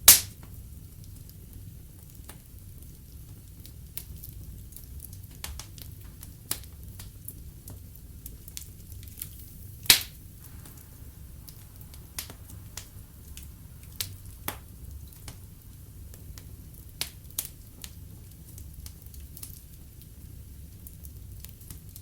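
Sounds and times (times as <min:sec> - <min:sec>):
log fire crackling: 0:00.0 - 0:22.0.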